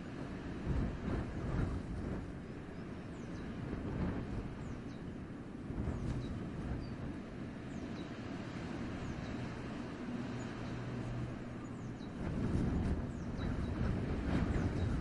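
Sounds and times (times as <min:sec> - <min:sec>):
wind through forest: 0:00.0 - 0:15.0.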